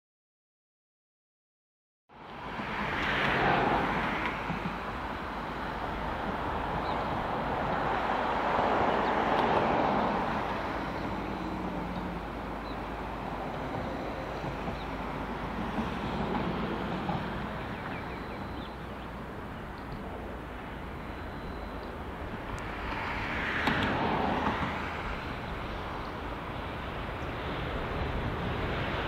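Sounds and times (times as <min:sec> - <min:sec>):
vehicle passing: 0:02.4 - 0:19.4, 0:20.1 - 0:29.0.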